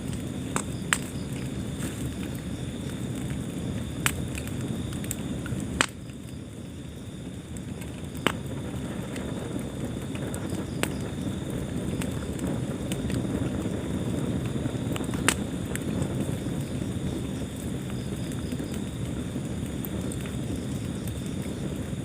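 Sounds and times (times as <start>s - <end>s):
fire popping: 0.0s - 22.0s
wood fire crackling: 0.0s - 22.0s.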